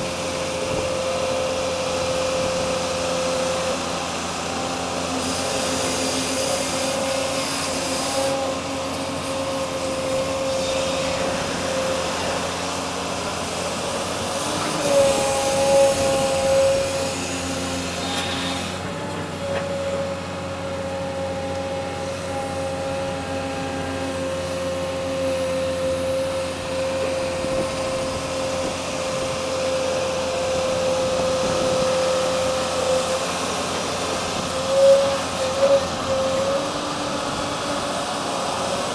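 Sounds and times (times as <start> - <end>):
truck engine humming: 0.0 - 38.9
wind and road noise: 0.0 - 38.9.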